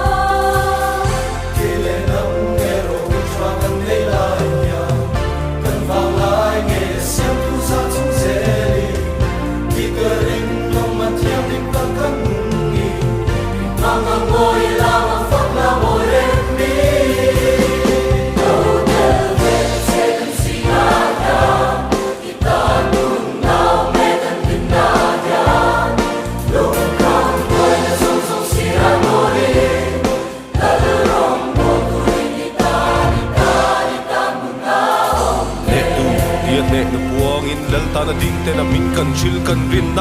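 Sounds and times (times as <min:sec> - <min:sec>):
choir singing gospel song: 0:00.0 - 0:40.0
instrumental backing with beat: 0:00.0 - 0:40.0.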